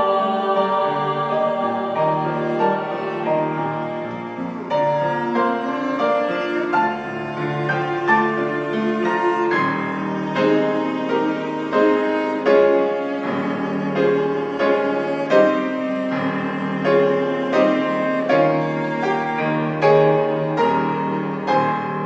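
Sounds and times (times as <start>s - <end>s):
bowed strings: 0.0s - 22.0s
piano hymn accompaniment: 0.0s - 22.0s.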